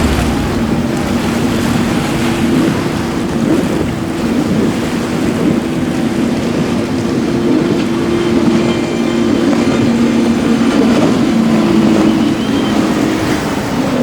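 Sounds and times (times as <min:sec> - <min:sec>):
powerboat engines humming: 0:00.0 - 0:14.0
rushing water: 0:00.0 - 0:14.0
wind on microphone: 0:00.0 - 0:14.0.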